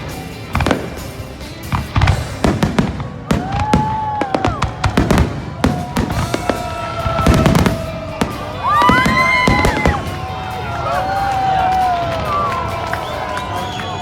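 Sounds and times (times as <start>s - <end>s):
fireworks bursting: 0.0s - 14.0s
music with long held notes: 0.0s - 14.0s.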